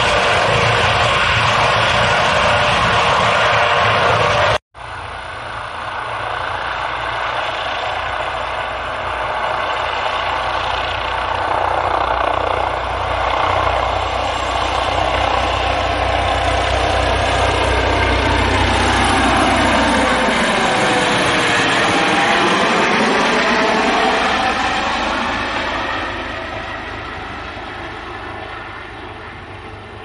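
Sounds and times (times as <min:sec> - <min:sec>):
helicopter turbine whine: 0:00.0 - 0:30.0.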